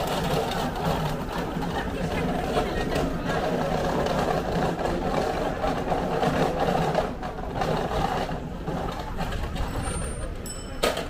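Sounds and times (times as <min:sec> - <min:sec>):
busy street din: 0:00.0 - 0:11.0
traffic noise: 0:00.0 - 0:11.0.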